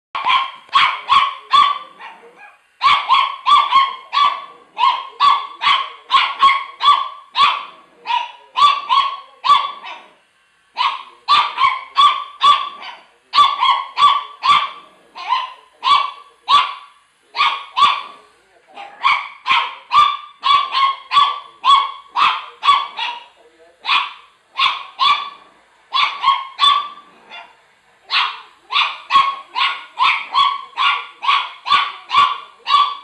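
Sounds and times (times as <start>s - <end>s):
small dog barking: 0.2s - 10.2s, 10.8s - 33.0s.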